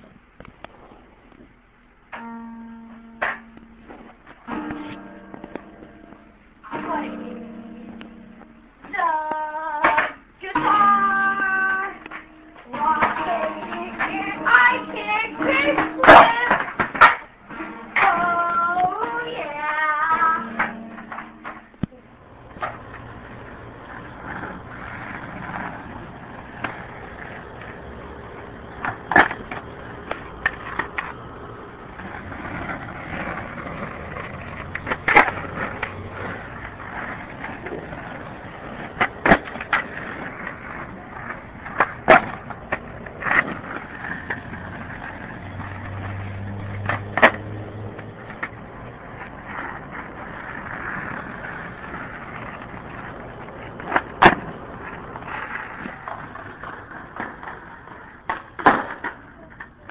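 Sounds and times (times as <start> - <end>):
skateboard clacking on pavement: 0.0 - 59.9
skateboard wheels rolling on asphalt: 0.0 - 59.9.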